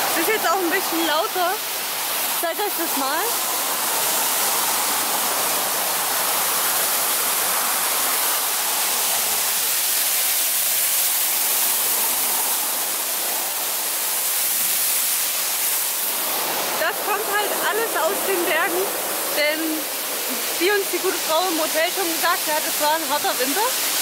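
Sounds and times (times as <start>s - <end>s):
waterfall pouring into pool: 0.0s - 24.0s.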